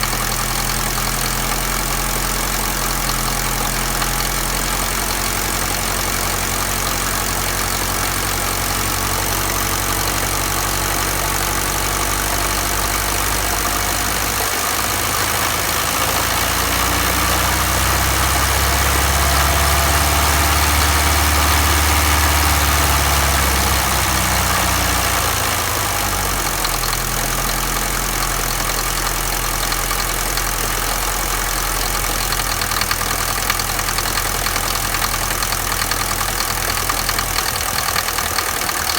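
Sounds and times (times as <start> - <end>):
diesel engine idling with a knock: 0.0 - 38.9
engine revving: 0.0 - 38.9.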